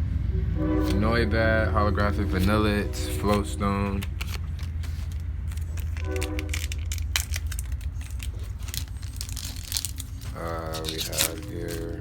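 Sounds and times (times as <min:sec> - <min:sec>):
steady low hum: 0:00.0 - 0:12.0
cards and wrappers clicking and rustling: 0:02.0 - 0:12.0.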